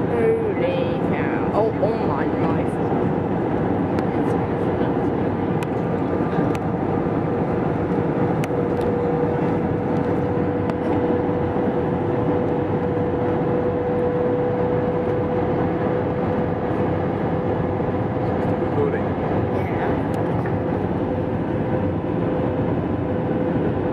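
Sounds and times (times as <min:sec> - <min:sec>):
jet engine and air roar: 0:00.0 - 0:23.9.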